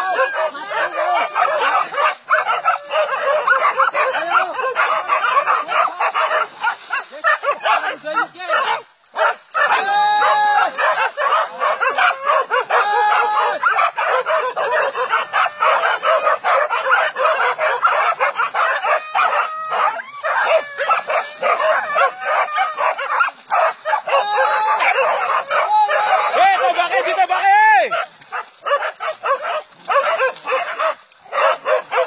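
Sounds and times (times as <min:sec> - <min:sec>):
dogs barking and yelping: 0:00.0 - 0:32.0.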